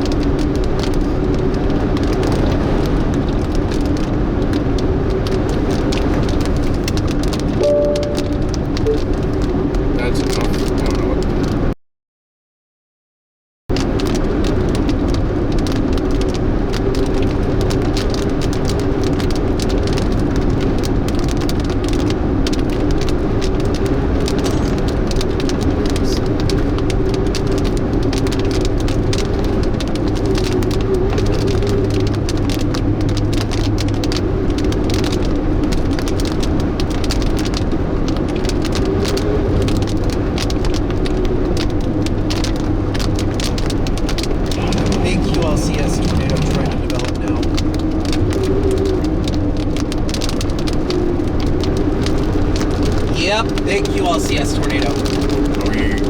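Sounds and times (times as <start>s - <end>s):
rain ticking on car: 0.0s - 11.7s, 13.7s - 56.0s
car road and engine noise: 0.0s - 11.8s, 13.7s - 56.0s.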